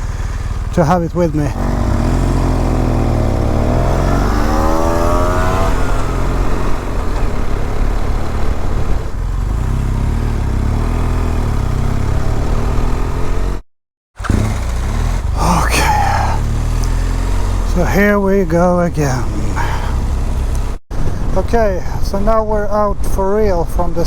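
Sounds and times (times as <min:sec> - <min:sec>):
motorcycle engine pulling away: 0:00.0 - 0:13.6, 0:14.2 - 0:20.8.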